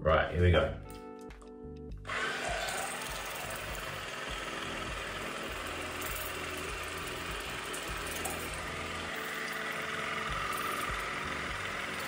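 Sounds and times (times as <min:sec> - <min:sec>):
water flosser motor running: 0:02.1 - 0:12.0
water spraying: 0:02.1 - 0:12.0.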